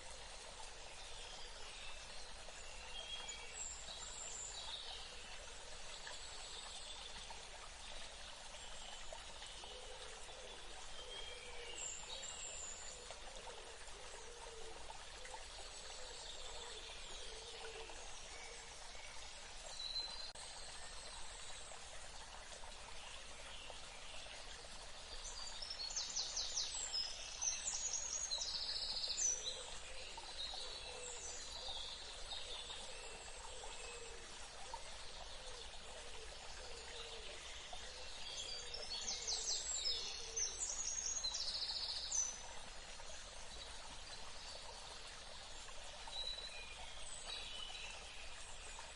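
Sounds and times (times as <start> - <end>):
running water: 0.0 - 48.9.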